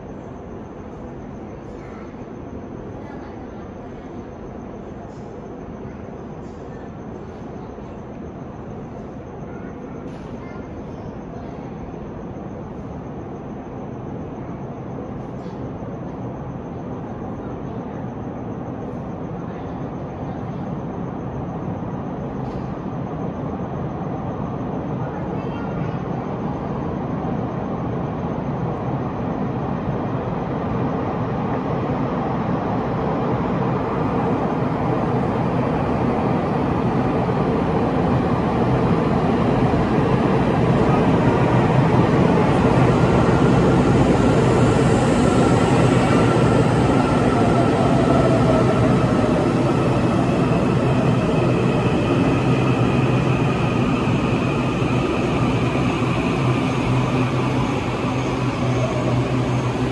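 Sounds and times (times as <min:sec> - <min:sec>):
electric train braking to a stop: 0:12.0 - 0:59.9.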